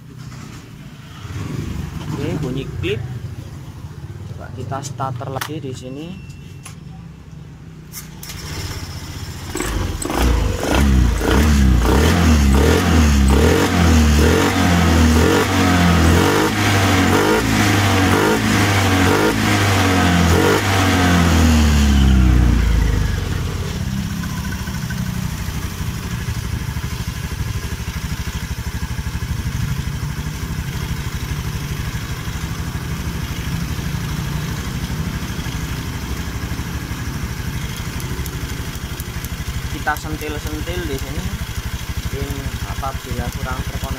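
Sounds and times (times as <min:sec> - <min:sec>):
scooter engine starting and revving: 0:00.0 - 0:04.3, 0:07.8 - 0:43.9
scooter engine idling: 0:00.0 - 0:43.9.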